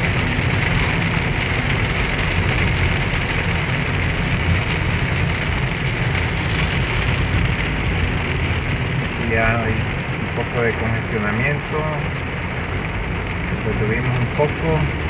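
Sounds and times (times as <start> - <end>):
car engine and tyres rumbling: 0.0 - 15.0
heavy rain on car roof: 0.0 - 15.0.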